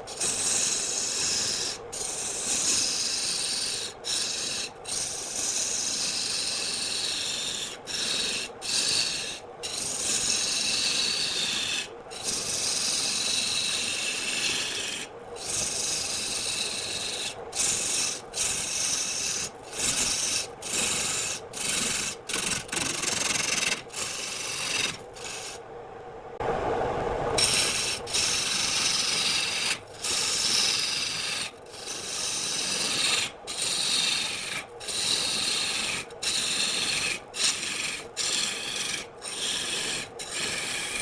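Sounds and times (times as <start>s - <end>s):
wood turning on a lathe: 0.0s - 25.6s, 27.4s - 41.0s.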